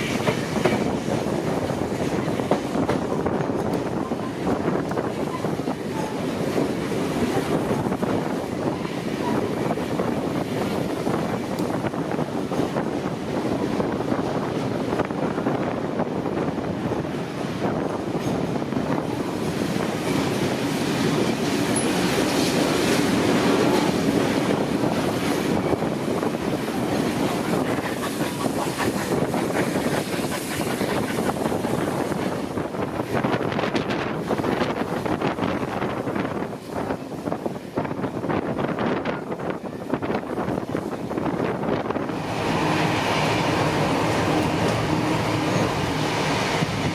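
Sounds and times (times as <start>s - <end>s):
train clickety-clack: 0.0s - 46.9s
train wheels rumbling on rails: 0.0s - 46.9s
wind buffeting microphone: 0.0s - 46.9s.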